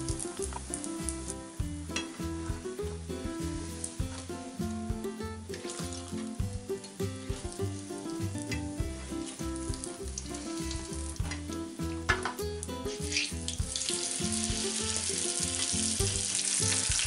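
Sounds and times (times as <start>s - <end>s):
background music with held notes: 0.0s - 17.0s
pancakes sizzling in hot oil: 0.0s - 17.0s.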